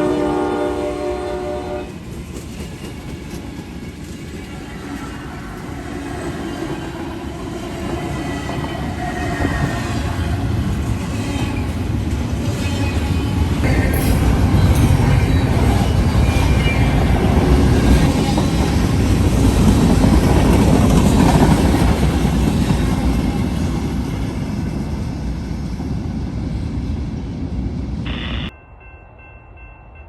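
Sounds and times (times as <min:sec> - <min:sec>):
freight train wheels on rails: 0:00.0 - 0:28.1.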